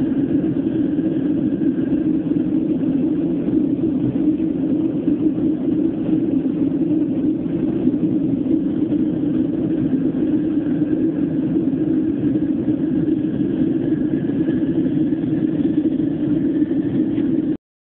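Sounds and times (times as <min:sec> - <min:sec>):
faint thin whine: 0:00.0 - 0:17.6
jet engine rumble in cabin: 0:00.0 - 0:17.6.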